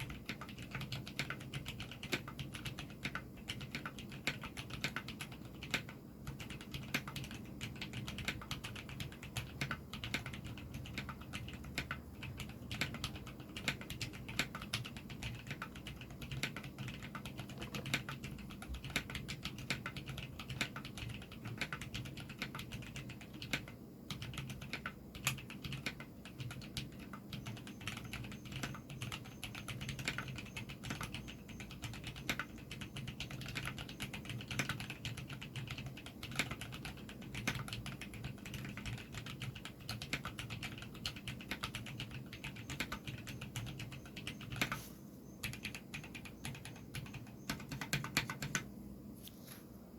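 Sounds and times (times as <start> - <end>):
mechanical keyboard typing: 0.0 - 48.7.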